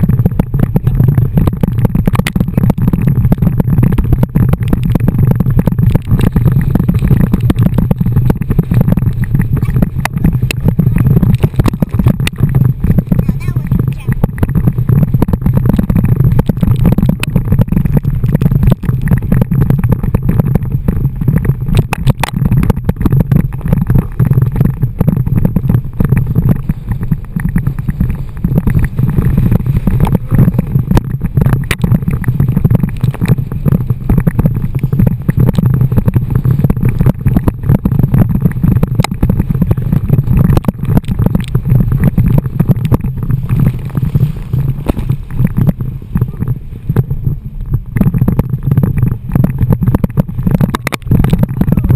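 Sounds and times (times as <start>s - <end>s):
water splashing against tube: 0.0s - 51.9s
wind buffeting microphone: 0.0s - 51.9s.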